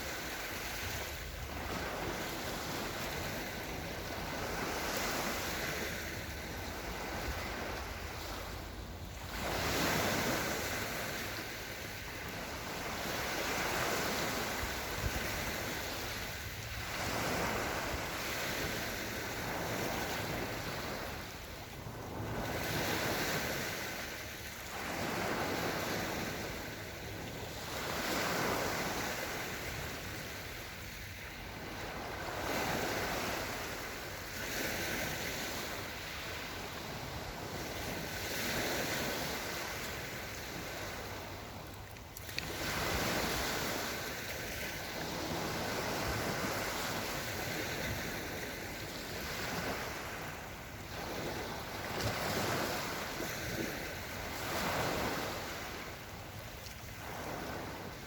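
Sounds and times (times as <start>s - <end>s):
small waves washing onto shore: 0.0s - 58.0s
wind on microphone: 0.0s - 58.0s.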